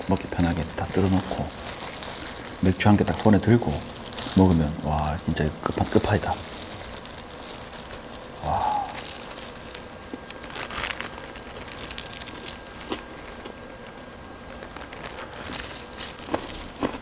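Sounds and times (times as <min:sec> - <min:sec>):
fried chicken crackling when torn: 0:00.0 - 0:17.0
plastic gloves crinkling: 0:00.0 - 0:17.0.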